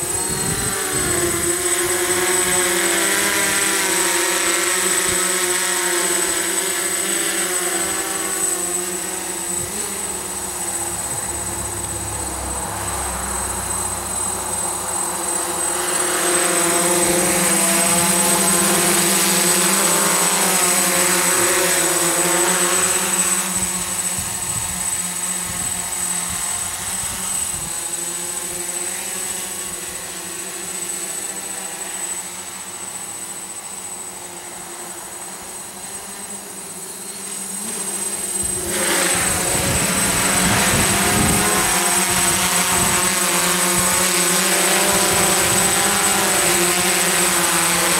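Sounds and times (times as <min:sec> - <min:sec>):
drone propellers buzzing: 0:00.0 - 0:47.9.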